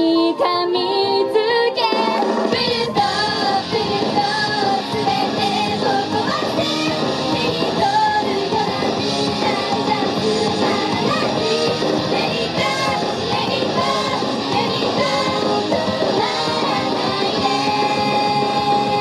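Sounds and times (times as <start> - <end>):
up-tempo pop rock song: 0.0 - 19.0
woman singing: 0.0 - 19.0.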